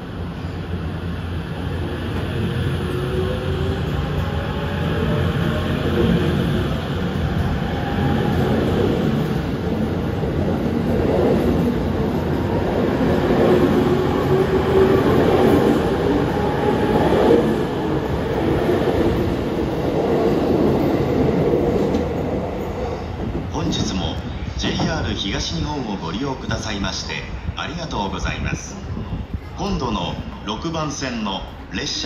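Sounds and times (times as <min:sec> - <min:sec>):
electric train passing: 0:00.0 - 0:26.3.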